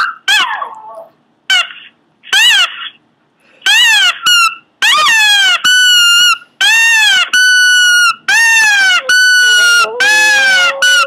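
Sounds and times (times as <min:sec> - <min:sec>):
dog crying high-pitched: 0:00.0 - 0:03.0, 0:03.6 - 0:11.0.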